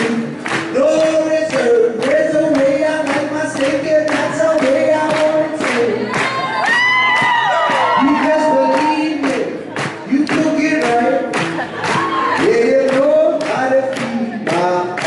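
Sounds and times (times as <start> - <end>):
man singing into a microphone: 0.0 - 6.3, 7.8 - 11.6, 12.2 - 15.0
steady rhythmic beat: 0.0 - 15.0.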